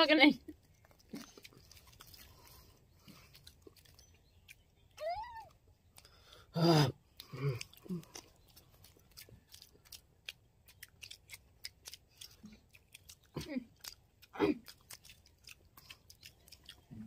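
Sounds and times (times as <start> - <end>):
chewing mouth clicks and smacks: 0.4 - 17.0.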